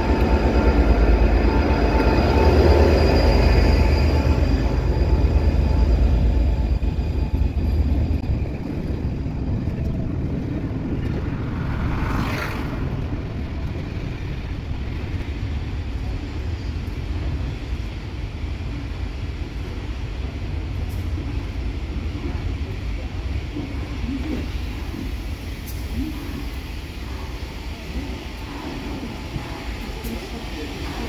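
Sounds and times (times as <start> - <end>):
train coaches rumbling past: 0.0 - 31.0.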